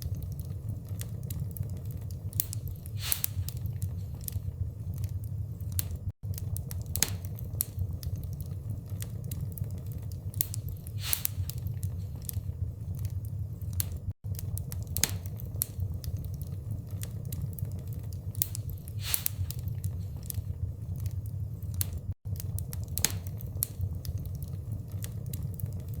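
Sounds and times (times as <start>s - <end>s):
low rumble of flame: 0.0s - 26.0s
wood fire crackling: 0.0s - 26.0s.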